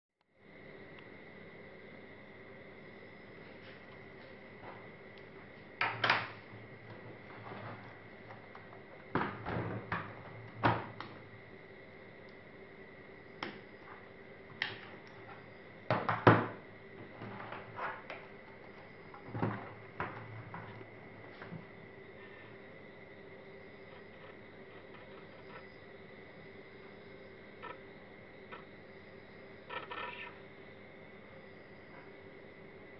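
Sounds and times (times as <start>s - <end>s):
faint steady high tone: 0.3s - 32.9s.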